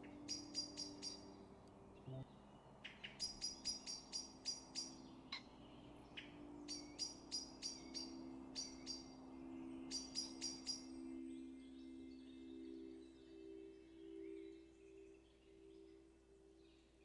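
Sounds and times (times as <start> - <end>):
small bird calling high sharp notes: 0.0 - 16.1.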